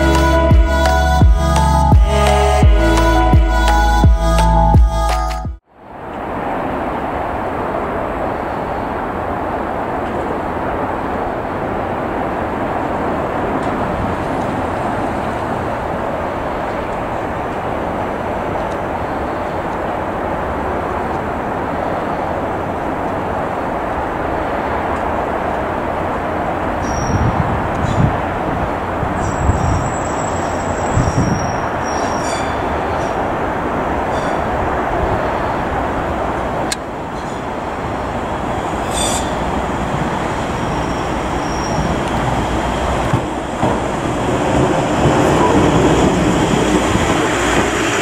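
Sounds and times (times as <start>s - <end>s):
diesel train running noise: 0.0s - 4.7s, 7.7s - 48.0s.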